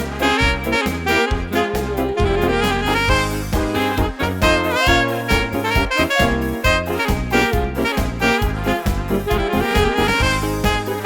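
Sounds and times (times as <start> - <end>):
keyboard: 0.0 - 11.0
saxophone melody: 0.0 - 11.0
steady drum beat: 0.0 - 11.0.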